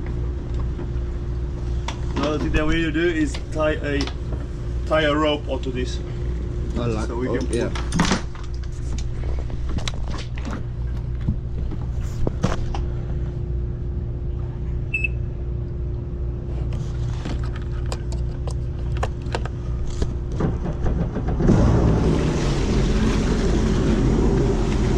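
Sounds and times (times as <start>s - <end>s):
boat engine rumbling: 0.0s - 15.1s, 16.9s - 24.9s.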